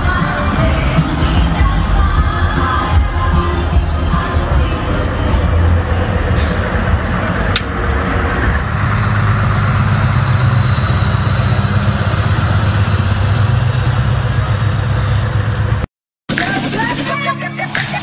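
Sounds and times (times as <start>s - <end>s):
truck diesel engines driving past: 0.0s - 15.9s.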